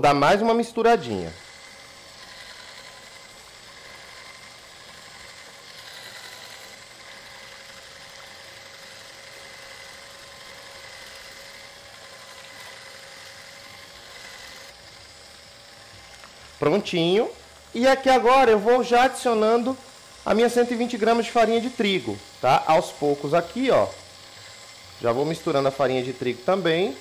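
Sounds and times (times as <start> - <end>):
electric mixer motor whine: 0.0 - 27.0.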